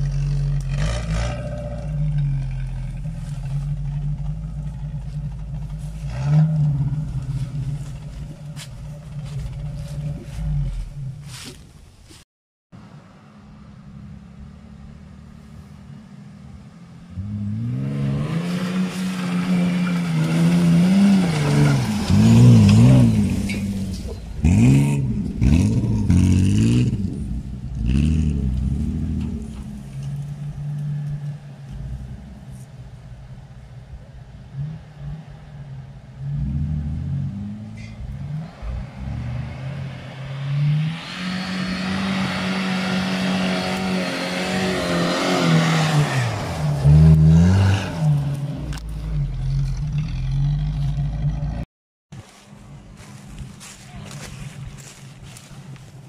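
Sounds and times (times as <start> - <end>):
off-road car engine revving: 0.0 - 11.5, 14.0 - 32.7, 34.2 - 51.7.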